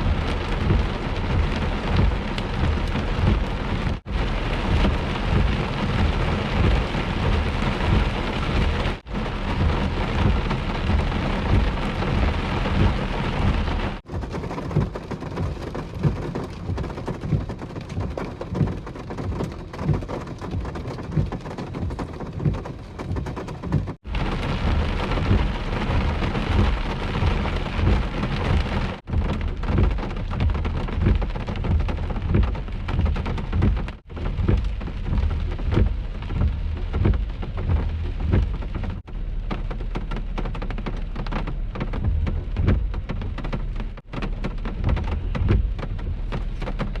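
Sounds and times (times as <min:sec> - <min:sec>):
heavy rain pelting down: 0:00.0 - 0:47.0
thunder rumbling: 0:00.0 - 0:47.0.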